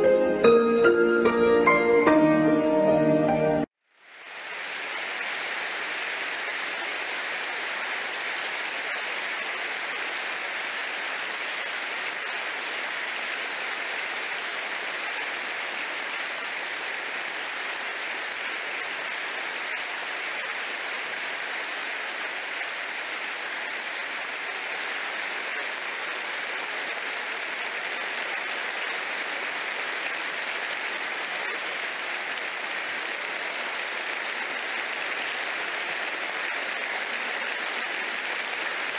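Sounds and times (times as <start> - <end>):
crowd applauding: 4.2 - 38.9.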